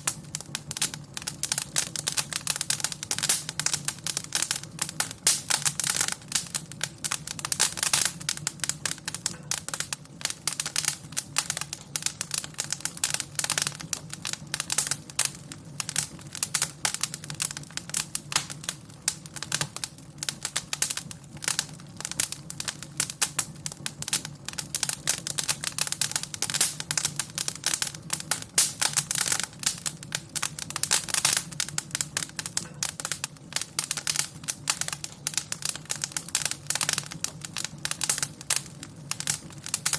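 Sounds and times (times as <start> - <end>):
low steady fire rumble: 0.0 - 39.9
wood fire crackling and popping: 0.0 - 39.9.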